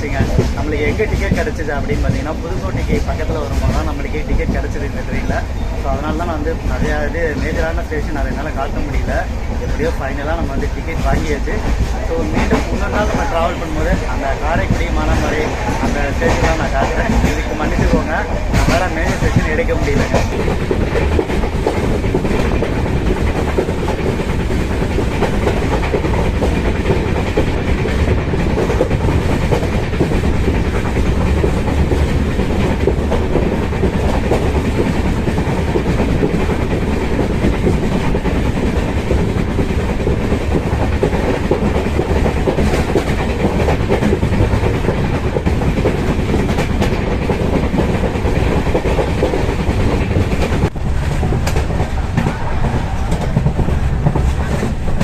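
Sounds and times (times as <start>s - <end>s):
clickety-clack over rail joints: 0.0s - 55.0s
train wheels rumbling on track: 0.0s - 55.0s.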